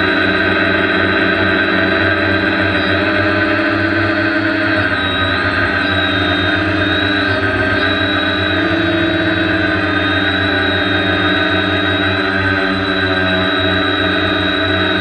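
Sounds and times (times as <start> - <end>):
drone motors and propellers whining: 0.0 - 15.0.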